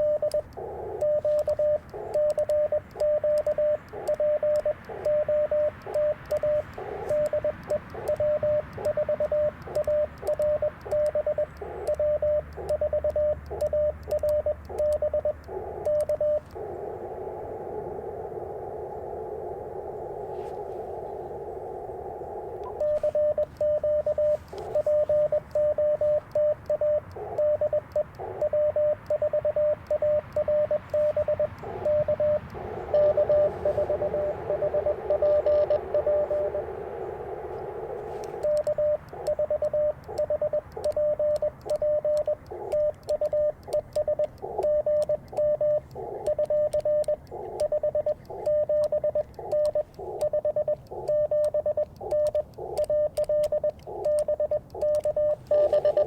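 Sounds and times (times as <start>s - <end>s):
morse code tone: 0.0s - 16.7s, 22.5s - 56.0s
radio receiver hiss: 0.0s - 56.0s.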